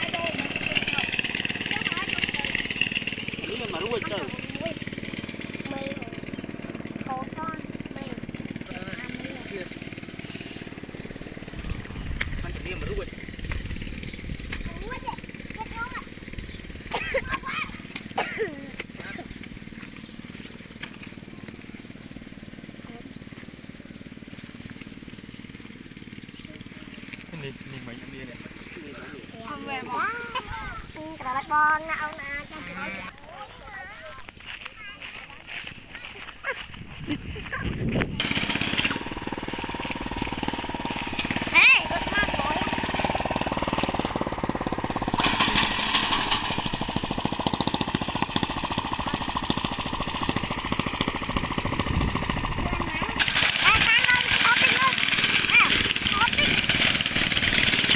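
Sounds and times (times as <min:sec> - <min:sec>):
small engine running steadily: 0:00.0 - 0:57.9.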